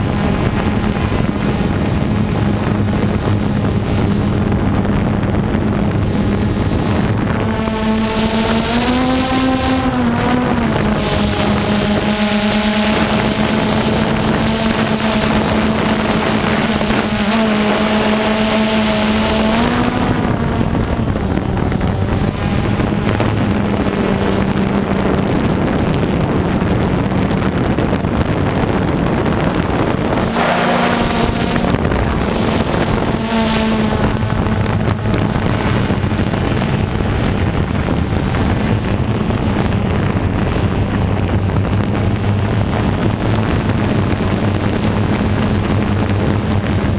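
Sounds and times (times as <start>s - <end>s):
drone propellers humming: 0.0s - 46.9s.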